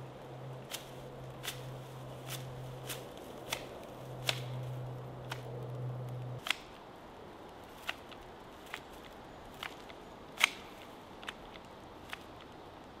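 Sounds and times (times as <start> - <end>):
low steady hum: 0.0 - 13.0
dry reed crackling snaps: 0.2 - 13.0.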